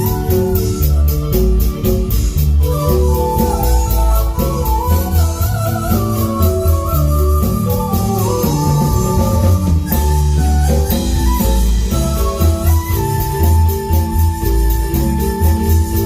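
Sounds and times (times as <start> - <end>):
drums keeping a steady beat: 0.0 - 16.0
heavy bass line: 0.0 - 16.0
marimba melody: 0.0 - 16.0.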